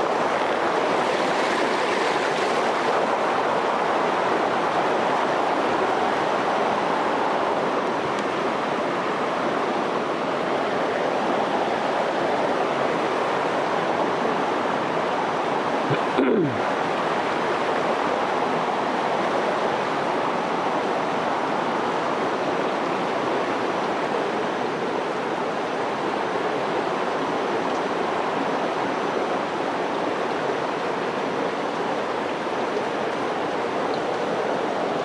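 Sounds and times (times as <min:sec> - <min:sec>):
water rushing over boulders: 0:00.0 - 0:35.0.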